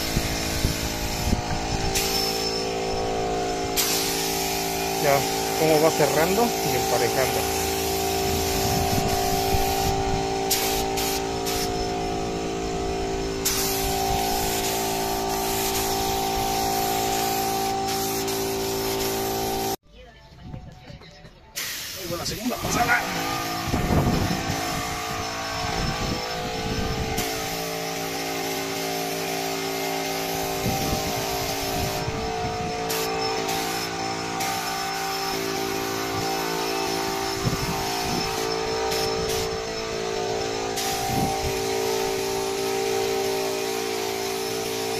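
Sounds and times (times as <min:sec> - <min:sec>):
spray gun hissing: 0:00.0 - 0:19.8, 0:21.6 - 0:44.9
steady hum: 0:00.0 - 0:19.8, 0:22.4 - 0:44.9.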